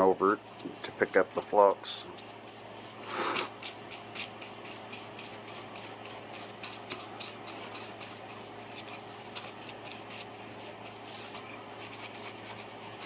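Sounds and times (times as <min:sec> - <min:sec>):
wipe rubbing circuit board: 0:00.0 - 0:13.0.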